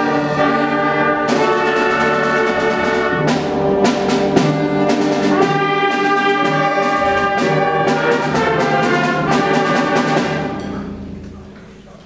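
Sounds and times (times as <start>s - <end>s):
percussion hits: 0.0s - 11.8s
brass and woodwinds holding chords: 0.0s - 12.0s.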